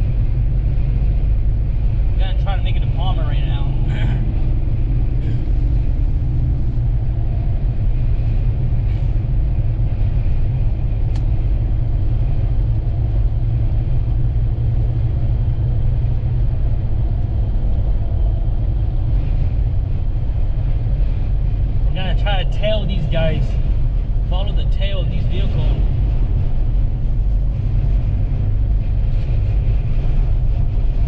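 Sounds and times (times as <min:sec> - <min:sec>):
engine and road noise: 0:00.0 - 0:31.0.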